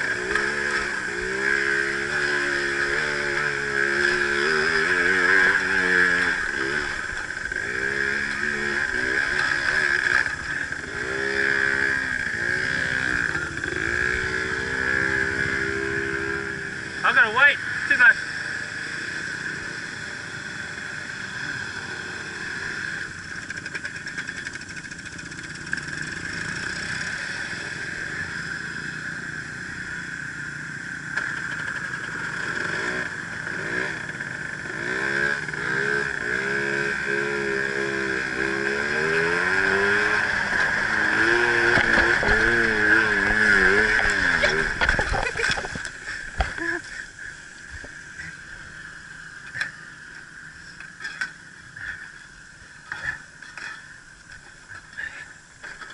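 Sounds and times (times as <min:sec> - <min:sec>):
scooter engine whining: 0:00.0 - 0:55.9.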